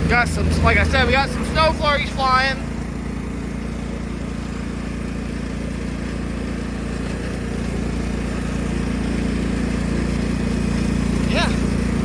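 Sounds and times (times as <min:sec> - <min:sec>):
riding mower engine idling: 0:00.0 - 0:12.0.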